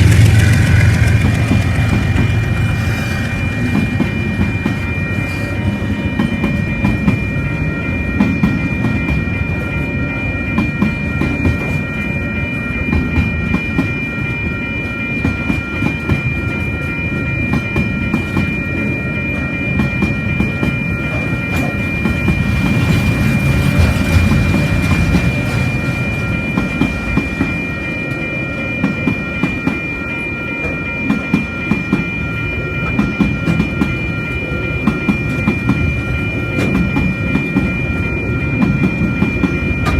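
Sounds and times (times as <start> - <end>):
train wheels clattering on rails: 0.0 - 9.8, 10.4 - 39.9
high ringing tones: 0.0 - 39.9.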